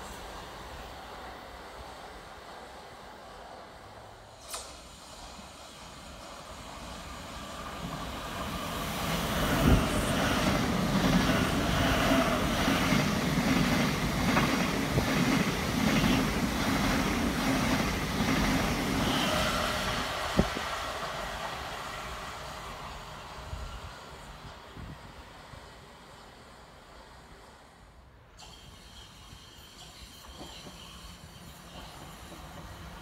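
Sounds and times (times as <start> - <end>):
train wheels rumbling on rails: 0.0 - 27.8, 28.4 - 33.0.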